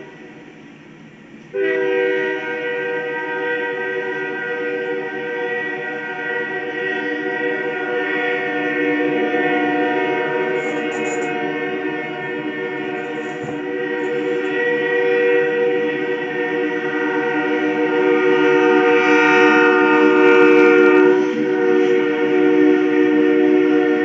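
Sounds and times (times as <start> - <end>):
locomotive air horn chord: 0.0 - 0.5, 1.5 - 24.0.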